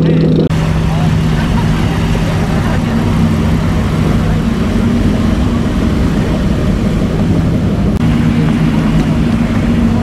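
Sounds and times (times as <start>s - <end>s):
car engines running at low speed: 0.0s - 10.0s.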